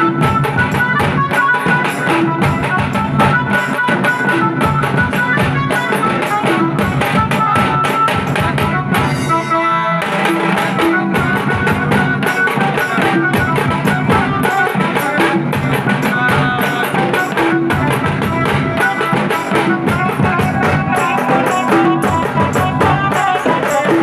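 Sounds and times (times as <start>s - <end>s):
drums playing fast beat: 0.0s - 24.0s
keyboard melody over loudspeakers: 0.0s - 24.0s.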